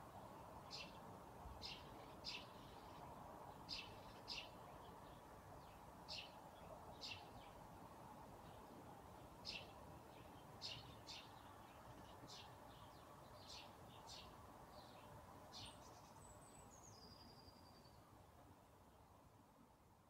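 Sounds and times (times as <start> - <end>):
faint steady hiss: 0.0 - 20.0
songbird chirps: 0.0 - 20.0.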